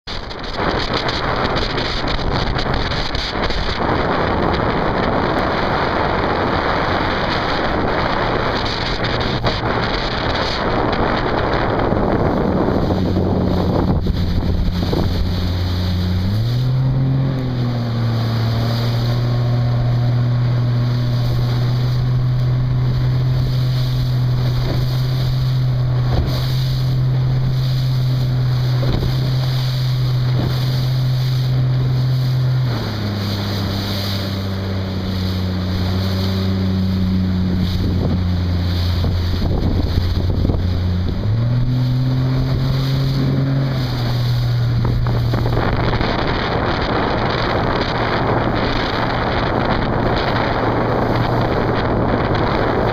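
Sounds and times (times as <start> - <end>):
boat engine running: 0.0 - 52.9
wind buffeting microphone: 0.1 - 52.9.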